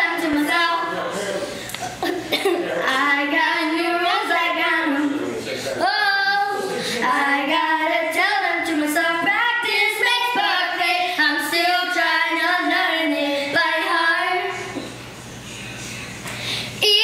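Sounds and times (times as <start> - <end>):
girls singing pop song: 0.0 - 15.1, 16.7 - 17.0.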